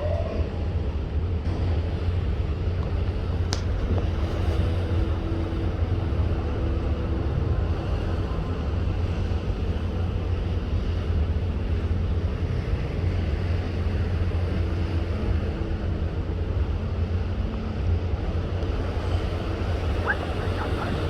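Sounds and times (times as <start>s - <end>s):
ship engine rumble: 0.0s - 21.0s
wind and water wash: 0.0s - 21.0s.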